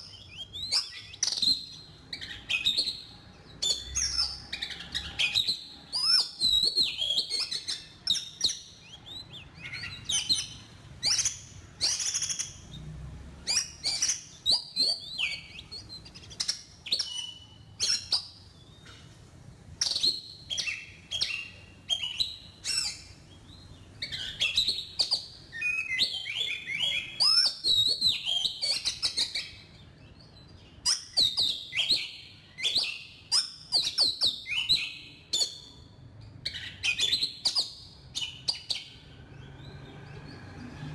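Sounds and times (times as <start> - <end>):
bird singing whistles and chirps: 0.0 - 19.0, 19.8 - 40.9.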